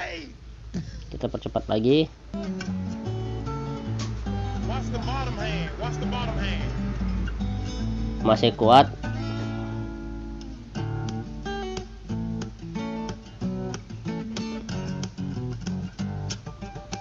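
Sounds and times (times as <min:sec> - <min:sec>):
fingerstyle acoustic guitar: 0:02.1 - 0:17.0.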